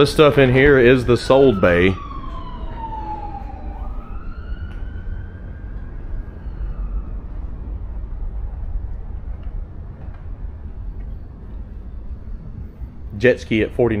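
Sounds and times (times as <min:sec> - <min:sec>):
emergency siren wailing: 0:00.0 - 0:13.1
low steady rumble: 0:00.0 - 0:14.0.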